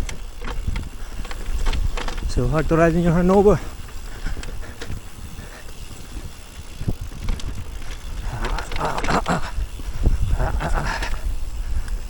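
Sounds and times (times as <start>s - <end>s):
bike knocks and rattles: 0.0s - 11.8s
bike tyre noise on ground: 0.0s - 12.0s
wind rumbling on microphone: 0.0s - 12.0s.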